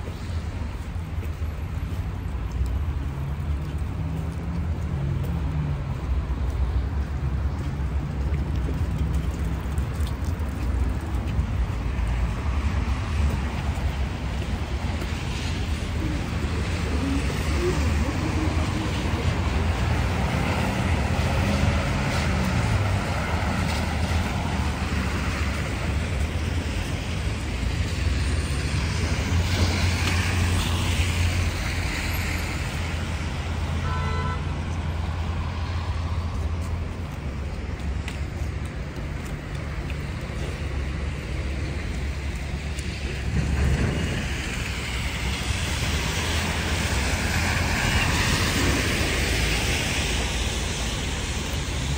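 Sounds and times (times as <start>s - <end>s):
cars passing: 0.0s - 51.9s.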